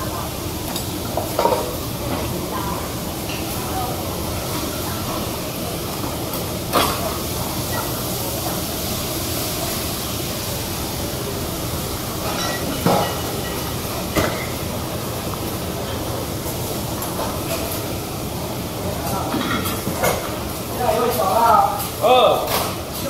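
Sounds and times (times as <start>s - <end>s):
bean sprouts sizzling on a griddle: 0.0s - 23.0s.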